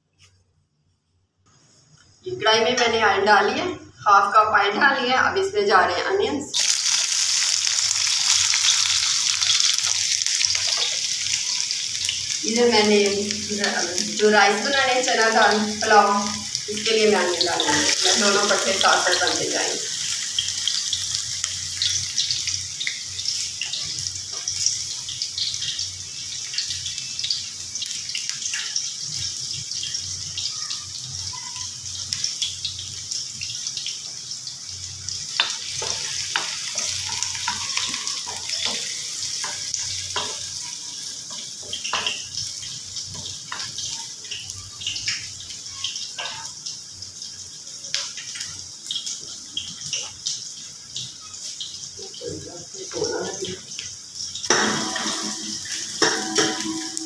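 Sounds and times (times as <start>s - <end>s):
onions sizzling in hot oil: 2.2s - 57.0s.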